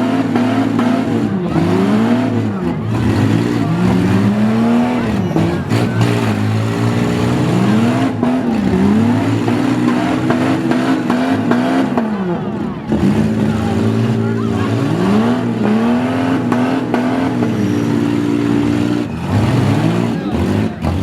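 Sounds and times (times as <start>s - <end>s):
car engines revving: 0.0s - 21.0s
cars colliding: 0.0s - 21.0s.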